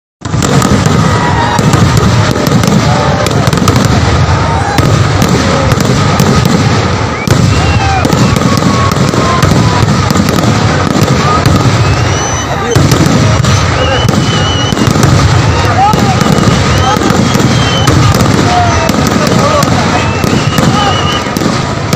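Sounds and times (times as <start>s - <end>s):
fireworks bangs and crackling: 0.2s - 21.9s
whistling fireworks: 0.2s - 21.9s.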